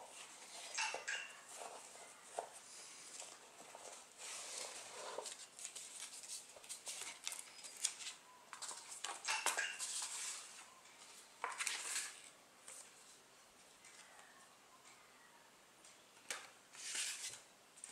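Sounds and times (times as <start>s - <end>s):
paper and cards rustling: 0.0s - 13.2s, 16.7s - 17.9s.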